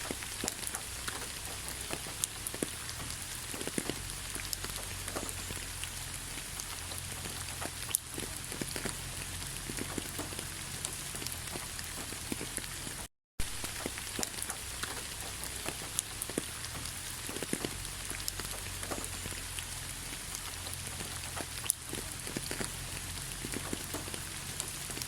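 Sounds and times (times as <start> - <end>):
rain pattering: 0.0 - 25.0
raindrops ticking on surfaces: 0.0 - 25.0.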